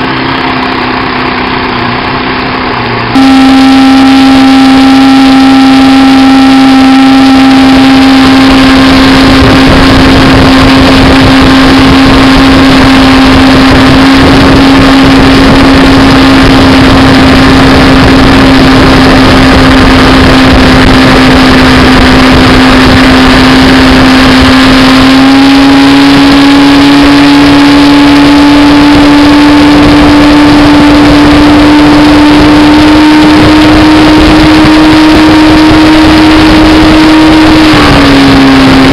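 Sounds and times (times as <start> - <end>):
outboard motor running: 0.0 - 38.9
wind and water rushing: 0.0 - 38.9.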